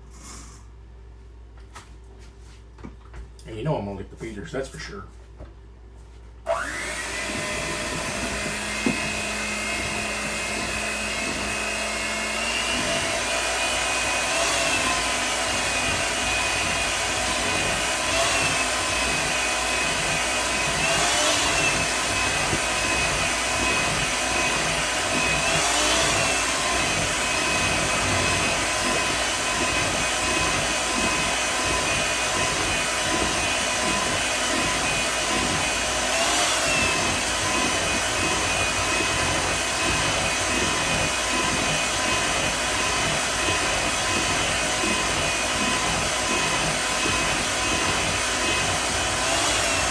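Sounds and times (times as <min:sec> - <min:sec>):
electric hand mixer whining: 0:06.5 - 0:49.9.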